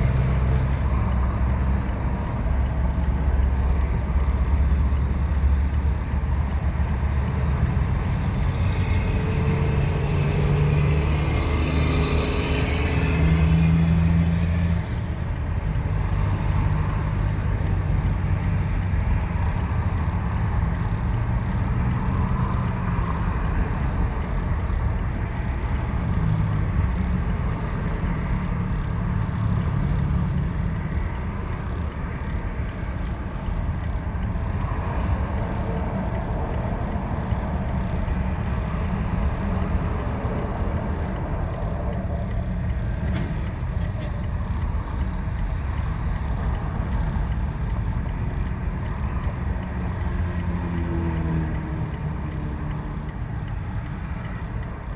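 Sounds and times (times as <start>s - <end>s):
heavy truck engines passing: 0.0s - 54.9s.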